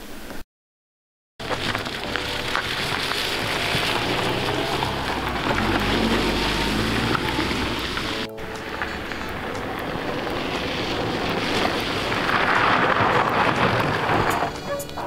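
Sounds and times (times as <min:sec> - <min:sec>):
car engine running: 0:01.4 - 0:14.7
tyres on gravel track: 0:01.4 - 0:15.0.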